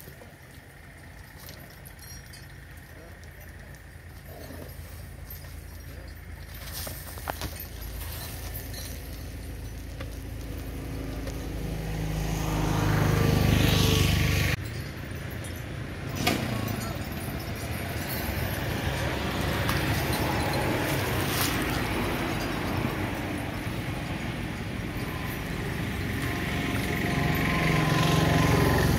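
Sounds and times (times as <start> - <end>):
engine running: 0.0 - 28.9
outdoor noise: 0.0 - 28.9.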